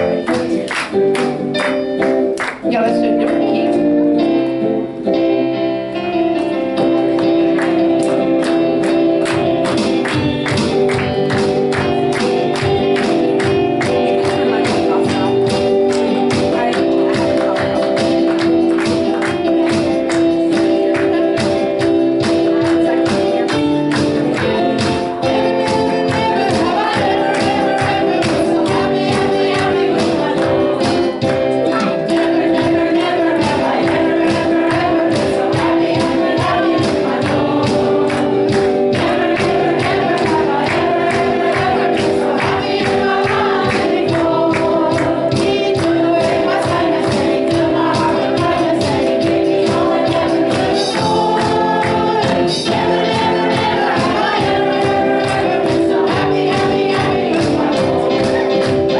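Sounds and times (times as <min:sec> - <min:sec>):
group singing worship music: 0:00.0 - 0:58.9.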